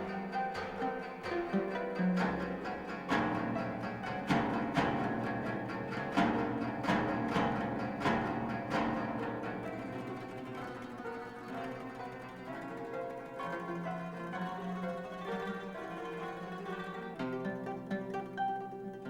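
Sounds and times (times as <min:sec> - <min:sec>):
koto plucked notes: 0:00.0 - 0:19.0.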